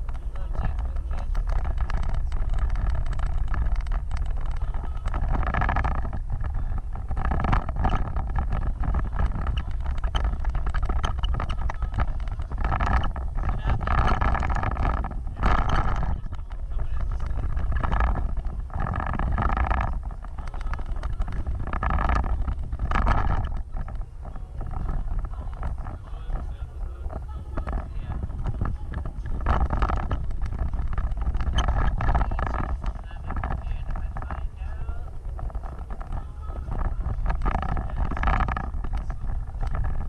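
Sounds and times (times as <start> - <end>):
vehicle engine rumbling: 0.0 - 40.0
wind buffeting microphone: 0.0 - 40.0.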